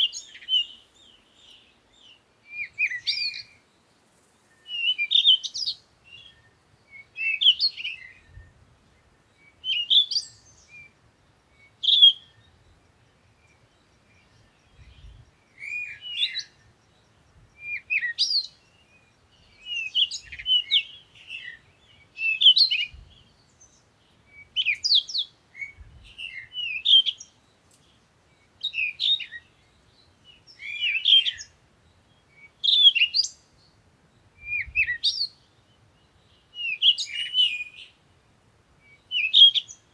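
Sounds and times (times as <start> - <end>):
bird chirping: 0.0 - 38.1, 38.8 - 39.9.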